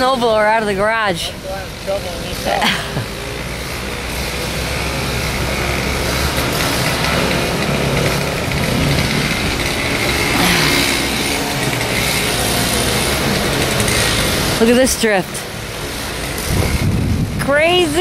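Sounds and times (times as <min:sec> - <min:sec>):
snowblower engine running: 0:00.0 - 0:18.0.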